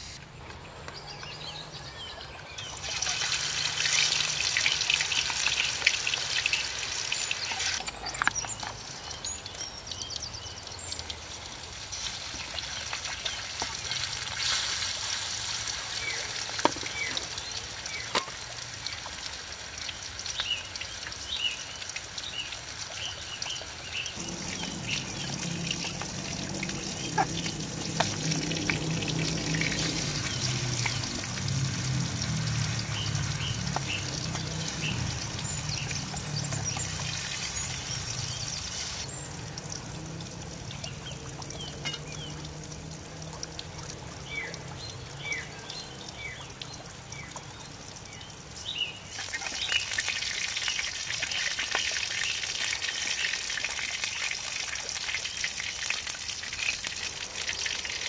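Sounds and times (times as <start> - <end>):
food sizzling in hot oil: 2.6 - 45.4, 49.0 - 58.0.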